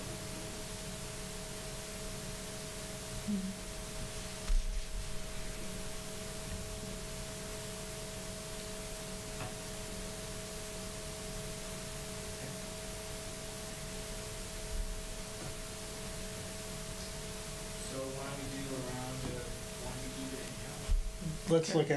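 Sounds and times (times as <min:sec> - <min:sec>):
low electrical hum: 0:00.0 - 0:21.9
steady hiss: 0:00.0 - 0:21.9.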